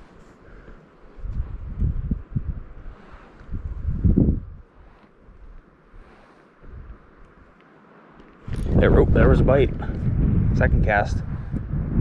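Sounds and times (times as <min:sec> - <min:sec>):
wind buffeting microphone: 0:00.0 - 0:07.5, 0:08.4 - 0:12.0
faint steady hiss: 0:00.0 - 0:09.7.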